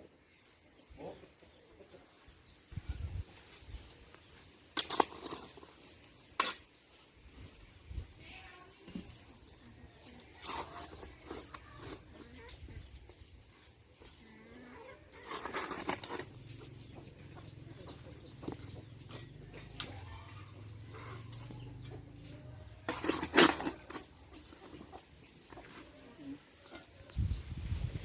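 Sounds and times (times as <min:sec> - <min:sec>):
chickens clucking: 0:00.0 - 0:07.7, 0:08.9 - 0:28.0.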